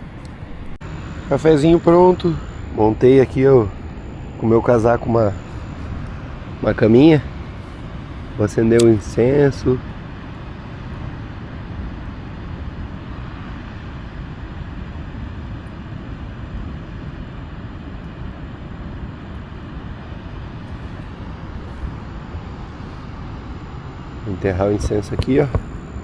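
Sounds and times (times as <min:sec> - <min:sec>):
steady low rushing noise: 0:00.0 - 0:26.0.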